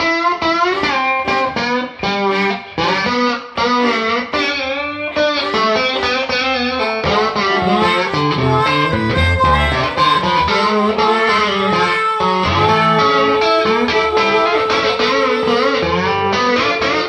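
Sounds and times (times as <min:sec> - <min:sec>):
blues guitar: 0:00.0 - 0:17.0.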